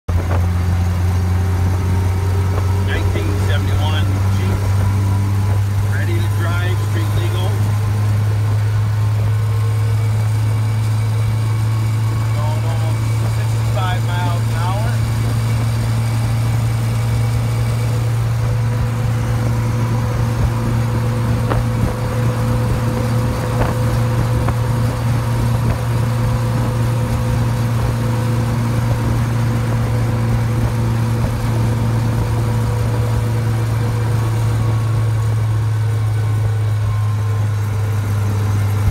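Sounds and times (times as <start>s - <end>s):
engine and road noise drone: 0.0s - 38.9s.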